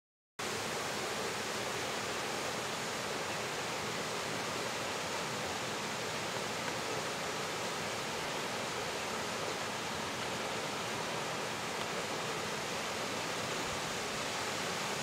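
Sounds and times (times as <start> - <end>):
waterfall rushing: 0.4 - 15.0.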